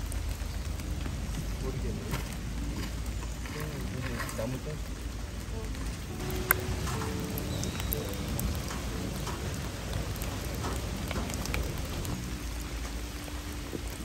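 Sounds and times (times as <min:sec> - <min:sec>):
heavy rain on wet ground: 0:00.0 - 0:14.0.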